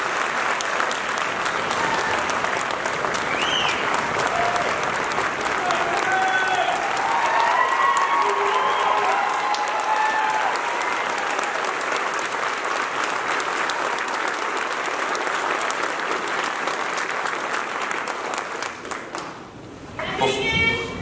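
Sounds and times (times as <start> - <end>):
audience applauding: 0.0 - 19.7.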